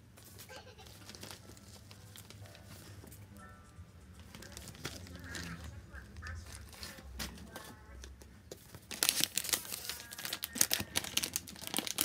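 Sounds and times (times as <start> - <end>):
paper rustling and crinkling: 0.1 - 3.2, 4.2 - 12.0.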